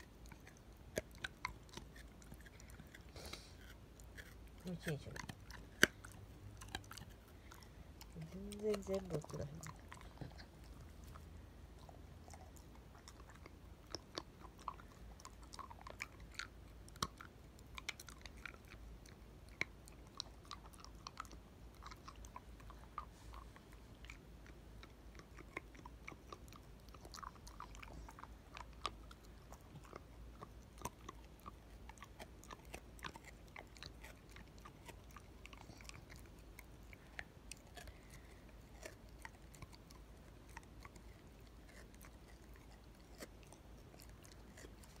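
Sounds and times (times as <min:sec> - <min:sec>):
dog chewing a treat: 0:00.0 - 0:45.0.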